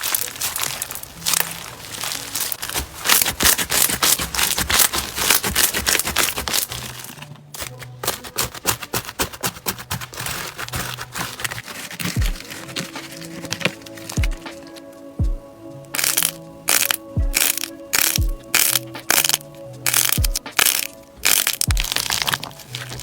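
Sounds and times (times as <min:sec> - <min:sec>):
crunchy slime crackling: 0:00.0 - 0:14.8, 0:15.9 - 0:23.0
soft background music: 0:00.0 - 0:23.0.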